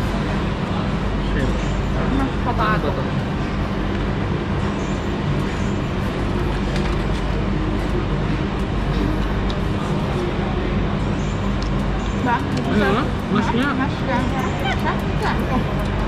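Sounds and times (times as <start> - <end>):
loud background rumble: 0.0 - 16.0
low hum: 0.0 - 16.0.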